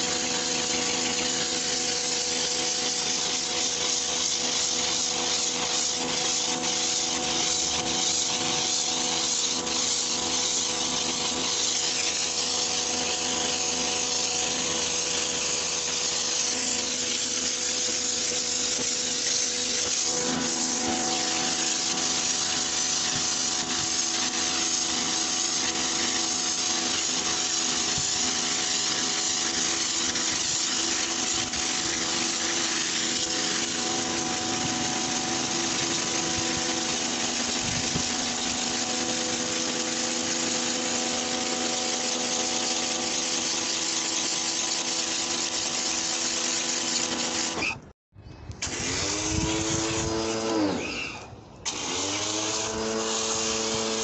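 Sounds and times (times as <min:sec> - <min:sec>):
pressure washer motor humming: 0:00.0 - 0:47.8, 0:48.6 - 0:54.0
water jet hissing on rug: 0:00.0 - 0:47.8.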